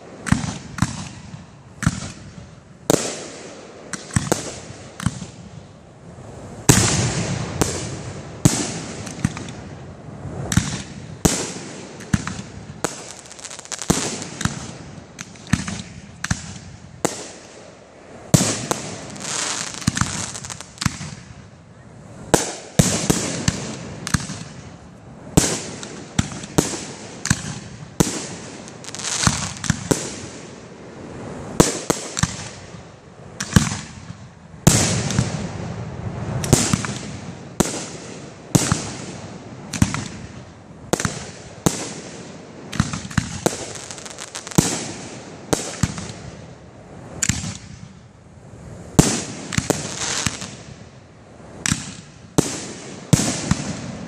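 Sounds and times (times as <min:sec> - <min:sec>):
firework bangs: 0:00.0 - 0:21.6, 0:22.2 - 0:48.0, 0:48.6 - 0:54.0
firework crackling: 0:00.0 - 0:54.0.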